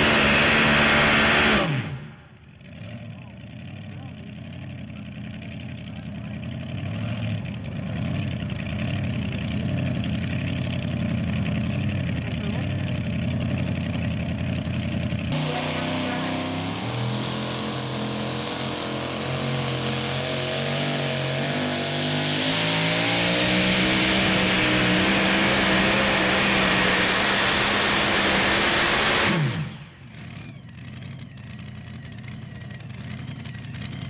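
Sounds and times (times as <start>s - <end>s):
truck engine at full throttle: 0.0s - 34.0s.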